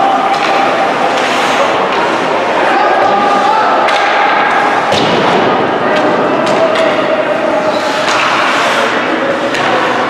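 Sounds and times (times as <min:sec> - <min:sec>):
hockey sticks and puck clacking: 0:00.0 - 0:10.0.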